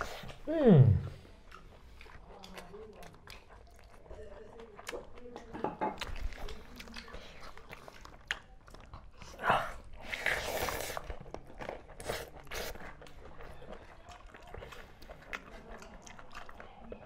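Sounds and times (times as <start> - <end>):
chewing with wet smacks: 1.1 - 17.0.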